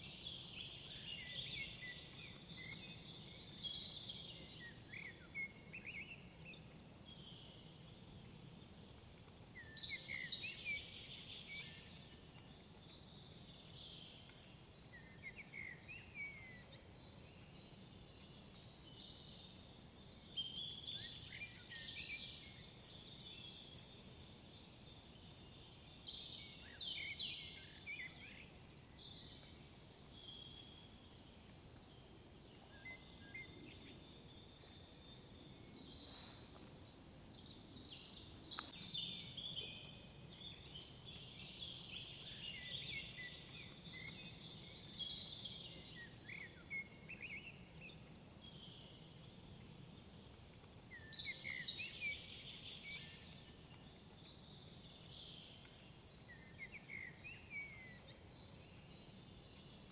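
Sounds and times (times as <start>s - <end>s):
faint background hiss: 0.0s - 59.9s
songbirds singing: 0.0s - 59.9s.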